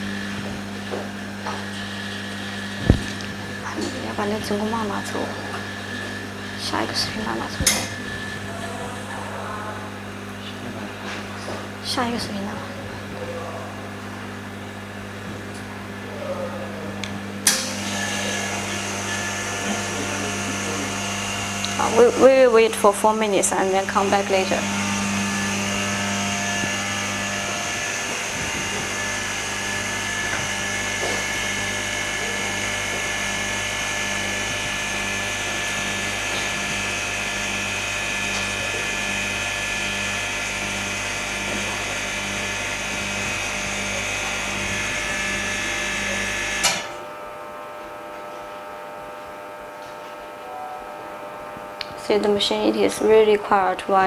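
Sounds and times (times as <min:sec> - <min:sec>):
machine motor hum and whine: 0:00.0 - 0:54.0.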